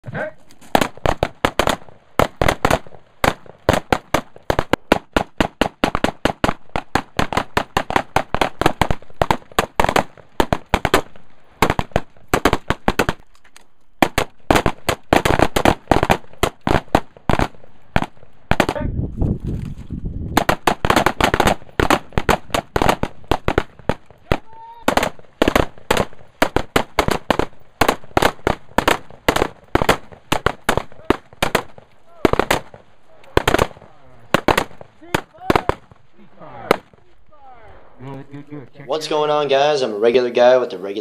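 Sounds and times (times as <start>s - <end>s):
rifles firing rapid shots: 0.7s - 13.2s, 14.0s - 18.8s, 20.4s - 36.0s, 36.6s - 37.0s.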